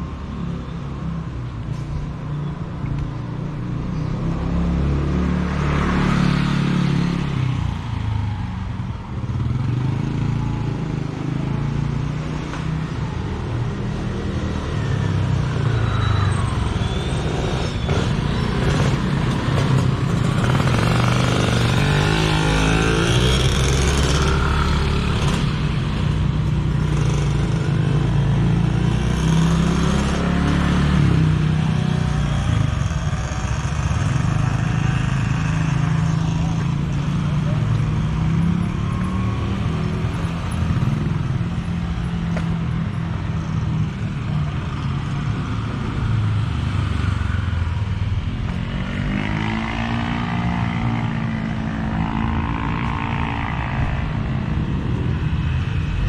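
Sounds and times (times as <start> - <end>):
vehicles passing close by: 0.0 - 56.0.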